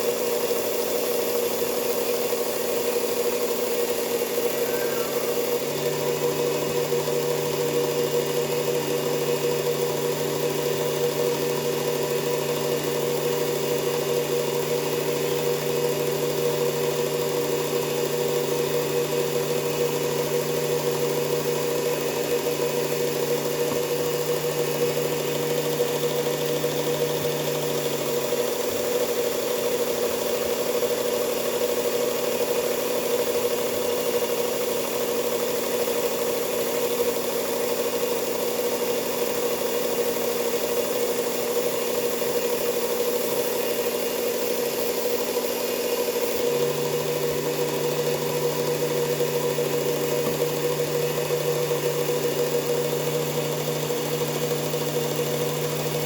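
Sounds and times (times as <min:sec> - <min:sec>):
belt sharpener motor hum: 0:00.0 - 0:56.0.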